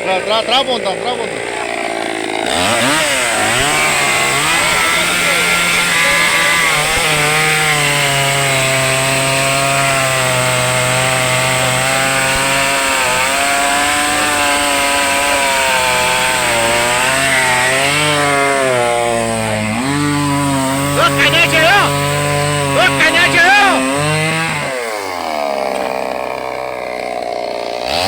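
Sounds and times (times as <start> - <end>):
chainsaw engine running: 0.0 - 28.0.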